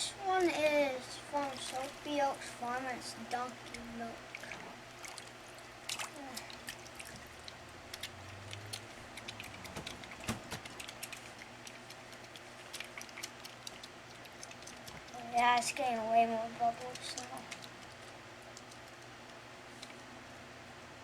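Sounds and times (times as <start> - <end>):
wet hands lathering soap: 0.3 - 20.1.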